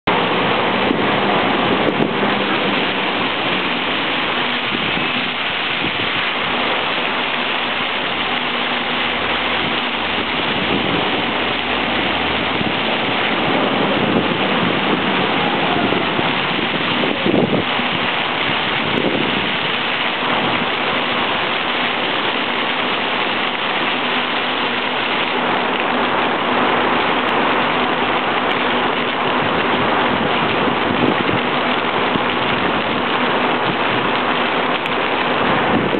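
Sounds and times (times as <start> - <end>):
fountain water splashing: 0.0 - 35.9.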